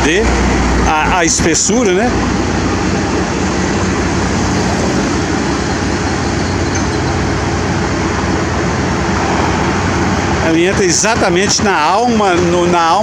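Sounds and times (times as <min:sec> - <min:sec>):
vibratory pile driver droning: 0:00.0 - 0:10.6.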